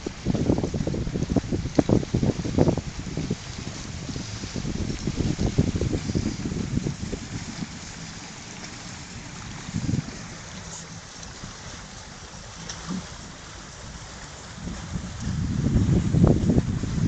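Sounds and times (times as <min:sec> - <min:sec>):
small waves lapping: 0:00.0 - 0:17.0
wind rumble on microphone: 0:00.0 - 0:17.0.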